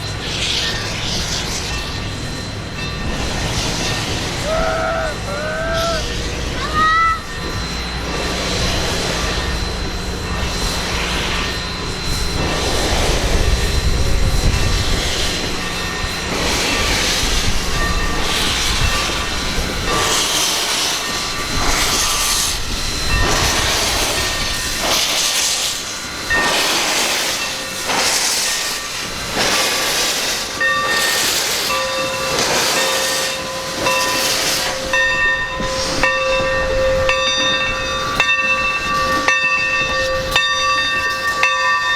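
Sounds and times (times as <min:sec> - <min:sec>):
steam locomotive chuffing: 0:00.0 - 0:41.9.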